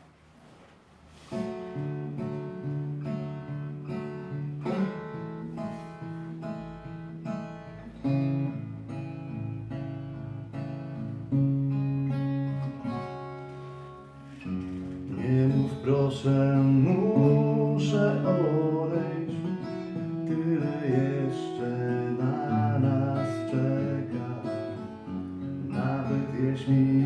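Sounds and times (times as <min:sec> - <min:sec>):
acoustic guitar chords: 0:01.0 - 0:27.0.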